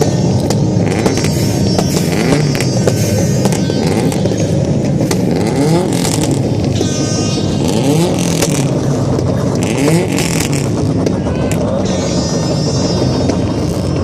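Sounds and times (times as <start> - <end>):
car engines revving past: 0.0 - 14.0.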